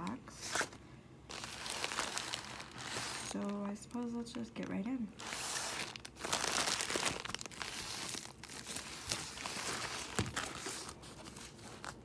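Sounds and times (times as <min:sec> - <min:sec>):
plastic mailer crinkling: 0:01.3 - 0:12.0.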